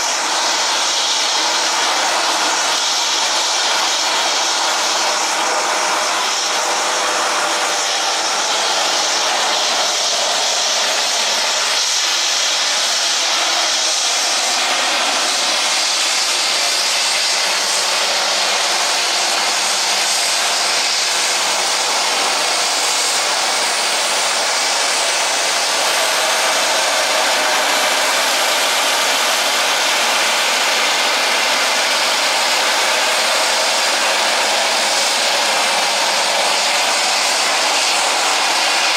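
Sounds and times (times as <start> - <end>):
turboprop engines hissing and whining: 0.0 - 38.9.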